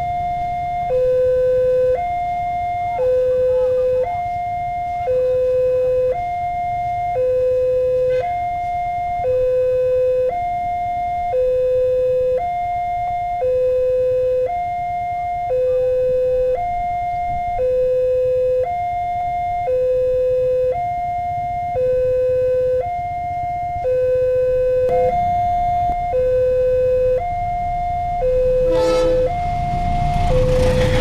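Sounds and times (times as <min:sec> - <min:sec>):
level crossing two-tone alarm: 0:00.0 - 0:31.0.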